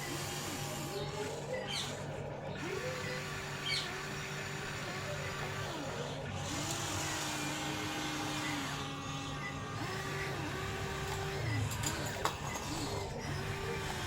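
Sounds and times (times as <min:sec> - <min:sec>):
toy excavator motors whirring: 0:00.0 - 0:14.0.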